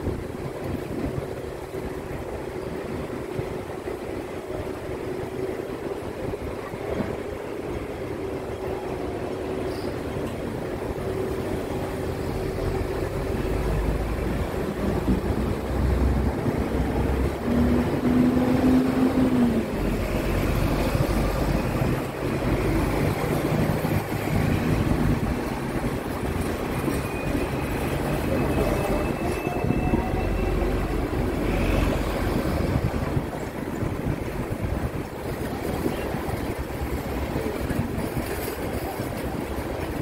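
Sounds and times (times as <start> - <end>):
street traffic: 0.0 - 40.0
tram rumble: 0.0 - 40.0.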